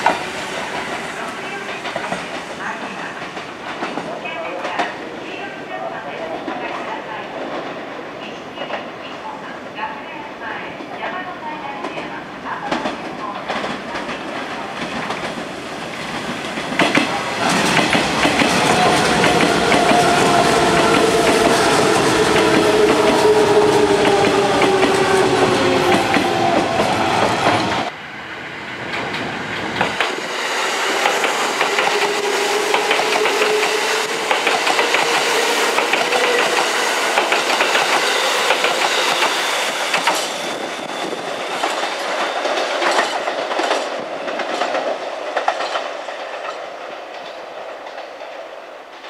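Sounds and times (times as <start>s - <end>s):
train wheels clattering over rails: 0.0s - 4.9s, 12.7s - 27.9s, 28.8s - 48.4s.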